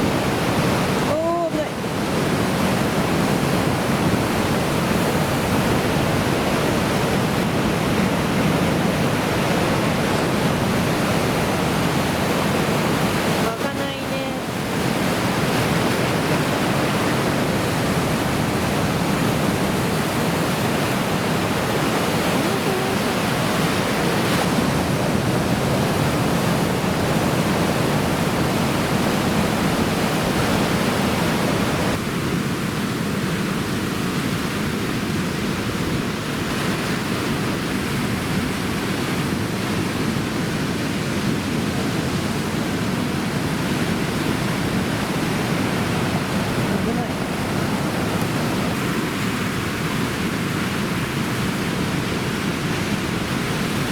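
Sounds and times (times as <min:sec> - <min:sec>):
heavy surf breaking: 0:00.0 - 0:53.9.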